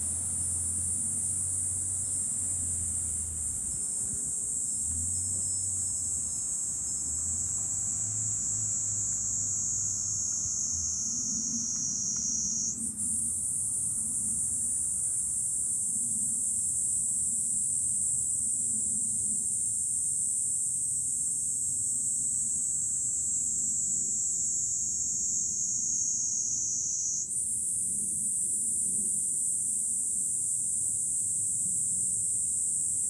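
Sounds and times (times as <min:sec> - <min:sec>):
cicadas droning: 0:00.0 - 0:33.0.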